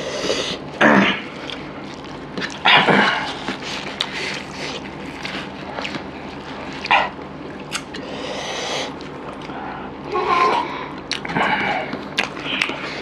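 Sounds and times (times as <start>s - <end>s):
people eating by hand: 0.0s - 13.0s.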